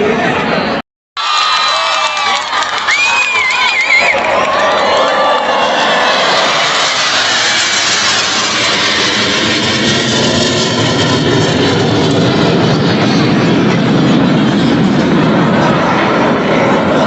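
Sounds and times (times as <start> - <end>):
military jet flying past: 2.7 - 17.0.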